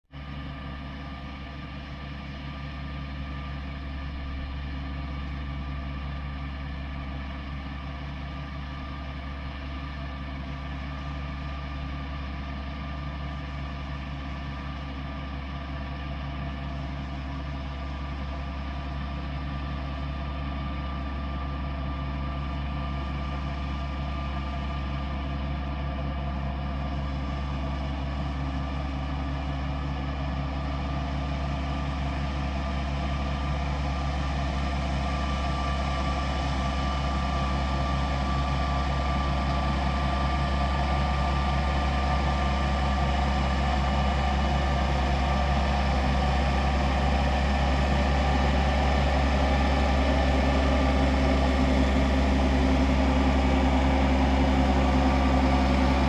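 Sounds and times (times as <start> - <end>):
diesel tractor running: 0.1 - 56.0.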